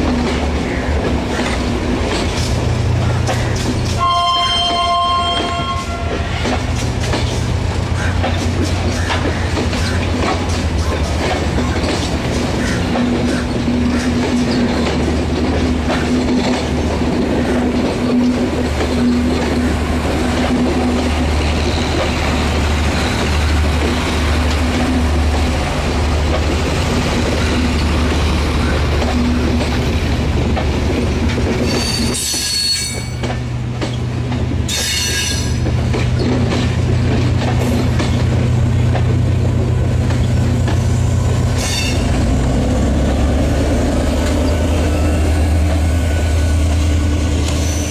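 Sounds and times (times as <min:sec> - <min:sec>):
train engine hum: 0:00.0 - 0:47.9
train wheels rolling: 0:00.0 - 0:47.9.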